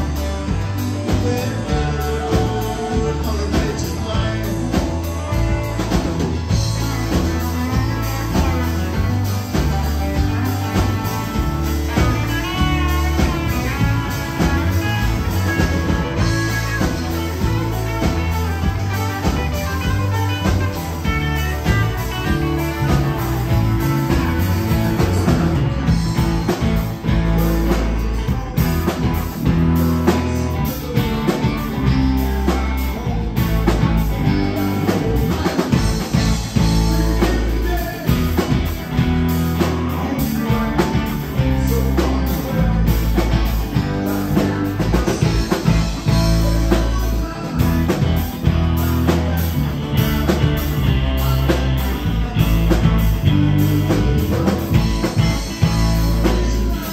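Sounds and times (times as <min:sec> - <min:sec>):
drums keeping steady beat: 0:00.0 - 0:56.9
live rock band: 0:00.0 - 0:56.9.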